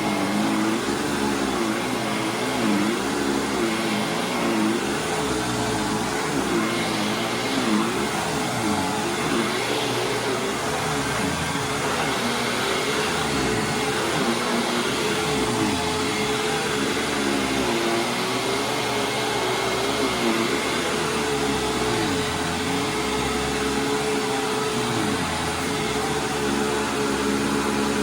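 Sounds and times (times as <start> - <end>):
vacuum cleaner running on carpet: 0.0 - 28.0.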